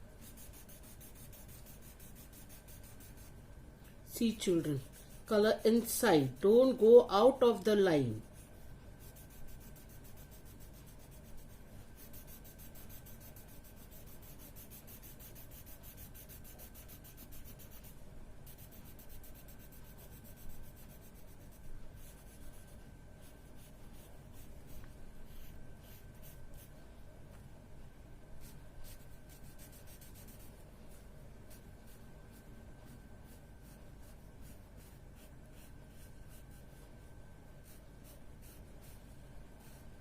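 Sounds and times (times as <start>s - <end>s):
crayon scratching on paper: 0.2s - 3.4s, 4.2s - 26.7s, 28.4s - 32.5s, 33.2s - 36.9s, 37.6s - 39.9s.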